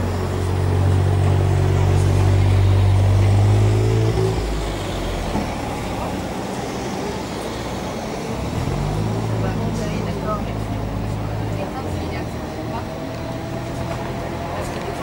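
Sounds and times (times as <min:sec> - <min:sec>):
street background noise: 0:00.0 - 0:15.0.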